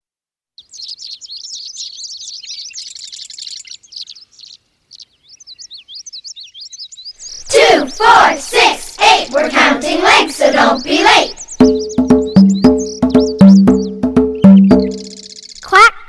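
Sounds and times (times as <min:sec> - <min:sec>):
bird trill: 0:00.6 - 0:08.3, 0:10.0 - 0:15.7
small birds chirping and warbling: 0:00.6 - 0:08.7, 0:10.0 - 0:15.7.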